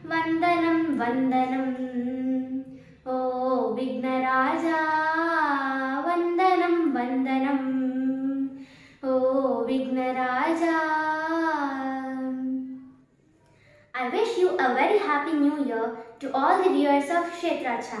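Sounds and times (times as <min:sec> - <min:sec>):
girl singing unaccompanied: 0:00.0 - 0:12.9, 0:14.0 - 0:18.0.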